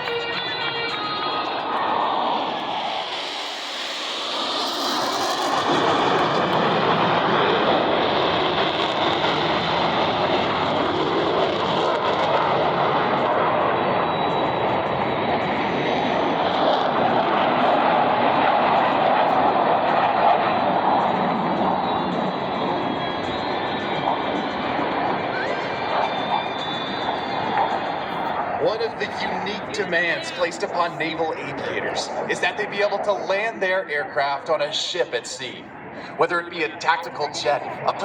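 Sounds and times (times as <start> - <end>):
jet engines roaring in flyby: 0.0 - 38.0.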